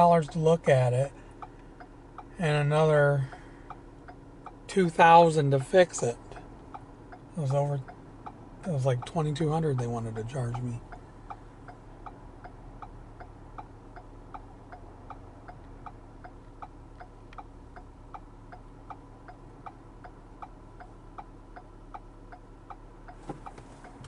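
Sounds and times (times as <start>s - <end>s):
car turn signal ticking: 0.0s - 24.0s.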